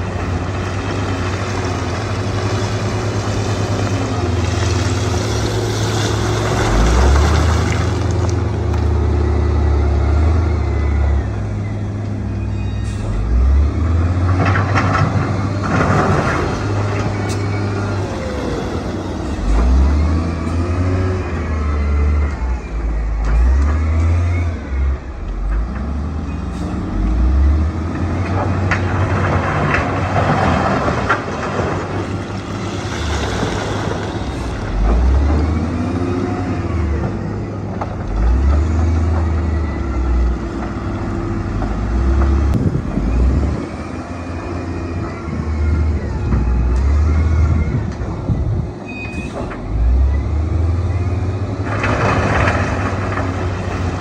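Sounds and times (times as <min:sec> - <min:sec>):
heavy machinery diesel engines: 0:00.0 - 0:54.0.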